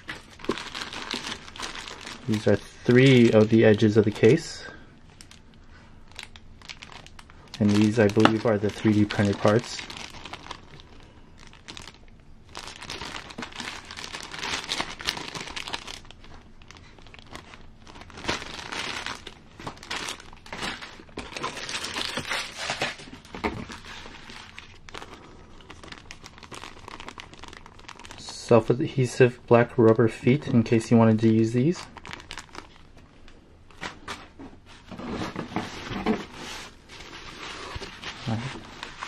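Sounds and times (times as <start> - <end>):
plastic bags crinkling: 0.0 - 29.2, 30.3 - 33.1, 34.8 - 39.0.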